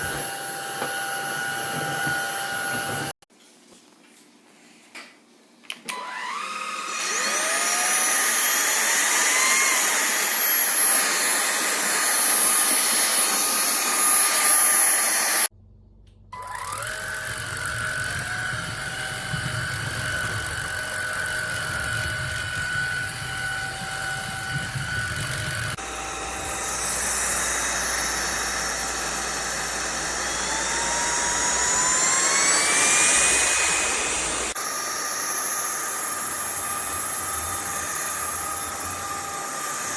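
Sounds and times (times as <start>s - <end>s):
stick vacuum motor whining: 0.0s - 3.2s, 5.9s - 15.5s, 16.4s - 39.9s.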